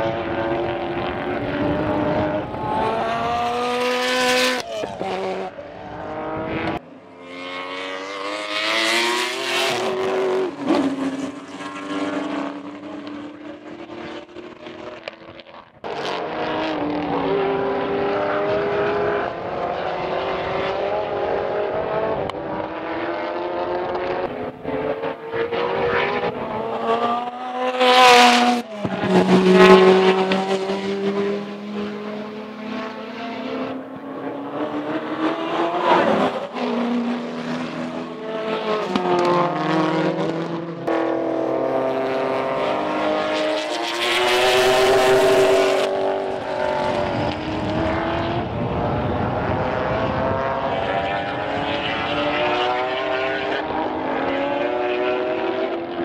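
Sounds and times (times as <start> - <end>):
race car engines at full throttle: 0.0 - 56.0.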